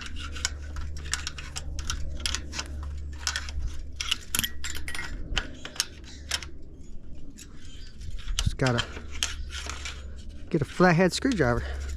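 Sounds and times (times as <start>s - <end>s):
metal clinks and scrapes: 0.0s - 11.9s
steady low hum: 0.0s - 11.9s.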